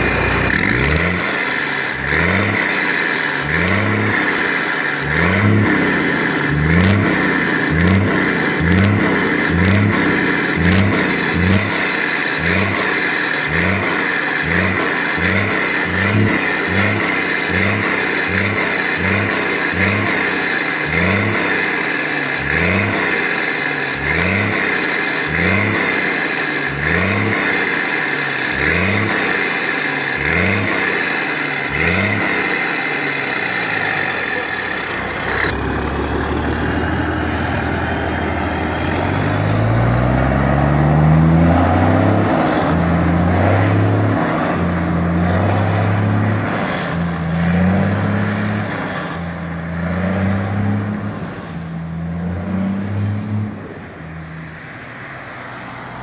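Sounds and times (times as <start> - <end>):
truck accelerating away: 0.0 - 56.0
truck diesel engine revving: 0.0 - 56.0.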